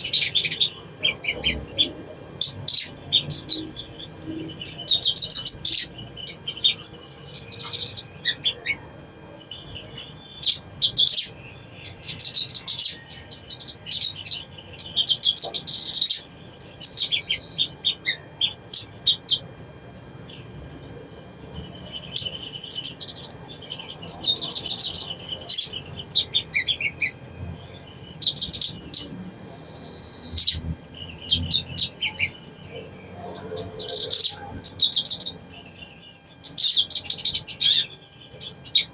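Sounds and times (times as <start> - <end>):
sunbird twittering song: 0.0 - 38.9.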